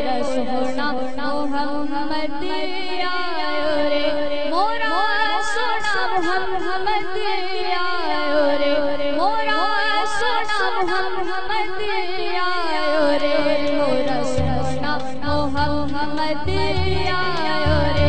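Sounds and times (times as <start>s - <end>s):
boy singing a devotional song: 0.0s - 18.0s.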